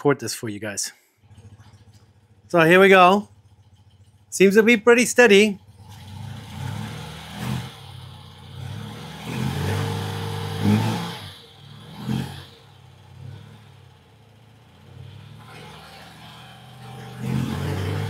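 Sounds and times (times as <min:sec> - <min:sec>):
motorcycle engine revving: 0:01.2 - 0:18.0.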